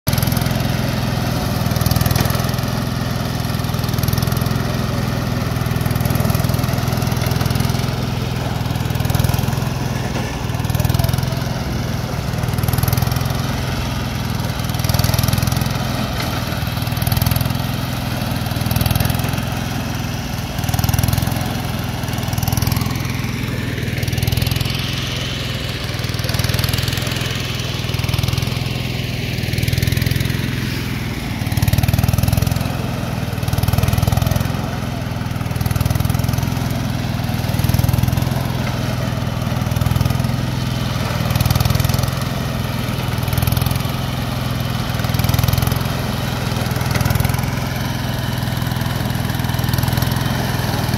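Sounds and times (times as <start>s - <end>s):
leaf stripping machine chatter: 0.1s - 50.9s
small engine running: 0.1s - 50.9s.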